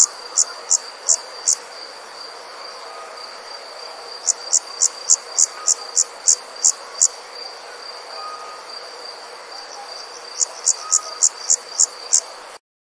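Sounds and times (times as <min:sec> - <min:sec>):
sharp insect chirps: 0:00.0 - 0:12.4
insect trill: 0:00.0 - 0:12.6.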